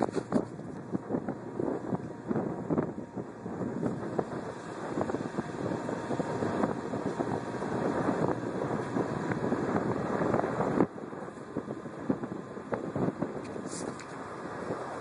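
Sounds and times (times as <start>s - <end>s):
vehicle driving on snow: 0.0s - 15.0s
wind on microphone: 0.0s - 15.0s.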